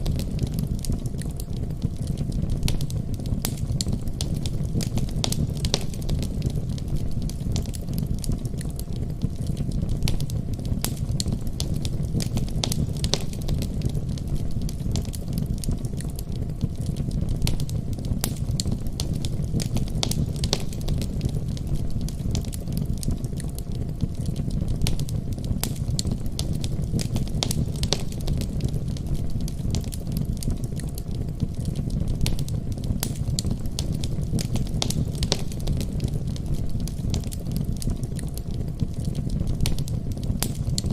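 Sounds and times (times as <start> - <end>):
fire crackling and popping: 0.0 - 40.9
fire rumbling: 0.0 - 40.9.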